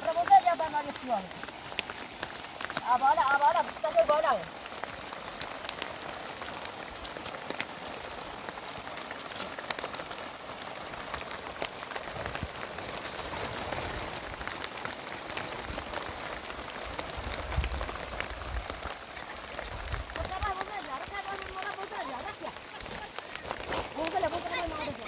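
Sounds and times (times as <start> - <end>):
heavy rain: 0.0 - 25.0
raindrops ticking: 0.0 - 25.0.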